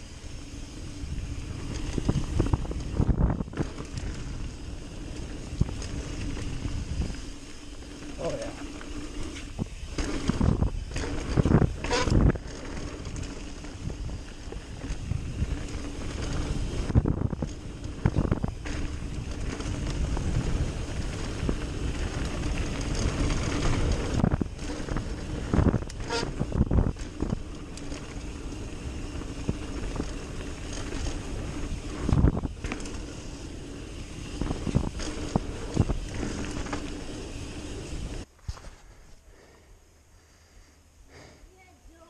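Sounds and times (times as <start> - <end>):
bike rattling: 0.0 - 39.7
bike tyres rolling on dirt: 0.0 - 41.4
wind over microphone: 0.8 - 7.3, 9.4 - 38.3.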